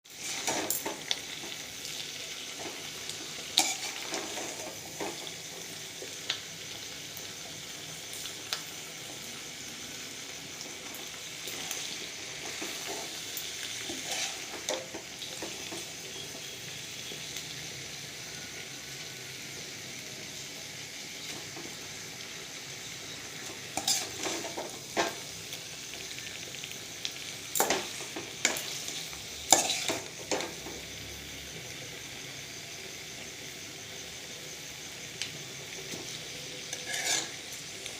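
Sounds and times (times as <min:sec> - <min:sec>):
chicken sizzling in a pan: 0:00.0 - 0:37.9.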